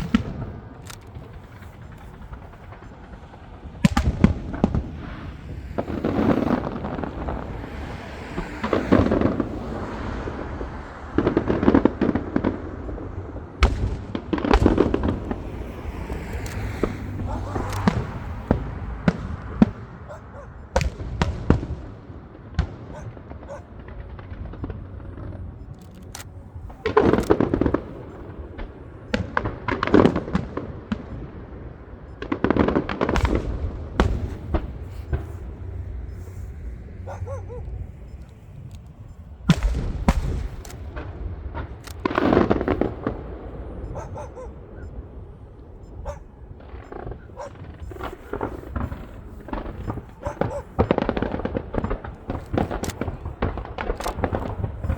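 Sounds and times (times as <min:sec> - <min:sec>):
fireworks bangs and pops: 0:00.0 - 0:37.0, 0:37.6 - 0:54.9.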